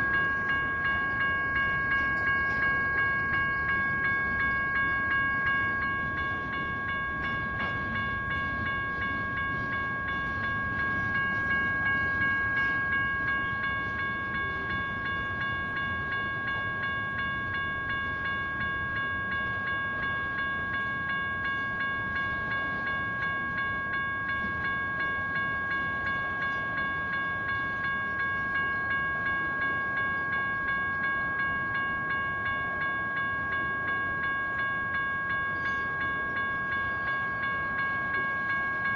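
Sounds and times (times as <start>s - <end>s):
crossing signal bell ringing: 0.0s - 38.9s
passing train rumble: 0.0s - 38.9s.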